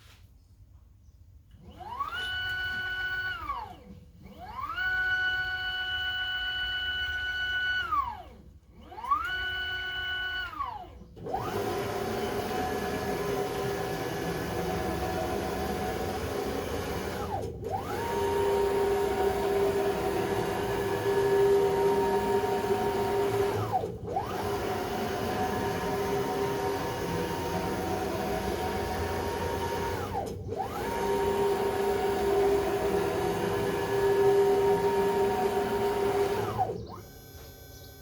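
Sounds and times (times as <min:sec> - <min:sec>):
machine motors whining: 0:01.5 - 0:38.0.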